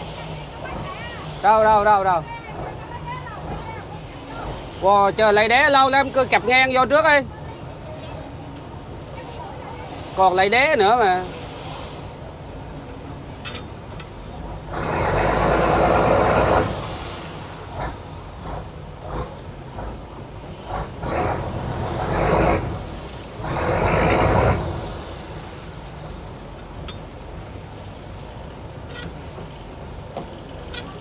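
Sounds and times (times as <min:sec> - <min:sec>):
boat engine revving: 0:00.0 - 0:31.0.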